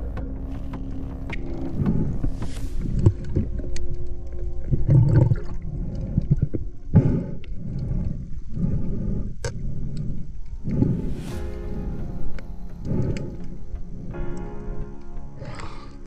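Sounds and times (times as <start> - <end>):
underwater rumble of moving water: 0.0 - 15.8.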